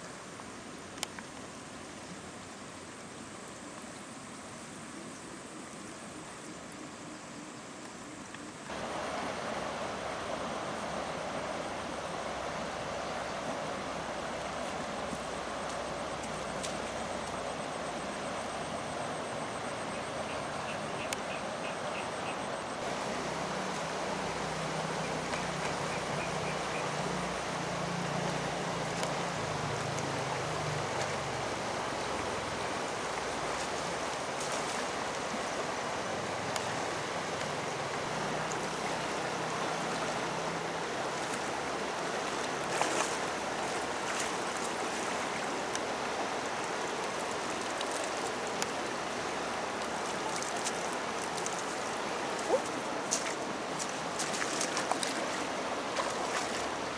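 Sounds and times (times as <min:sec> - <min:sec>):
river rushing: 0:00.0 - 0:56.9.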